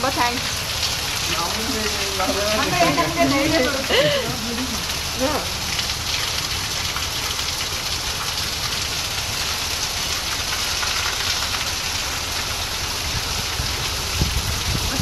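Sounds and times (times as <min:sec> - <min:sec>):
fire engine idling: 0:00.0 - 0:14.2
heavy rain pouring: 0:00.0 - 0:15.0.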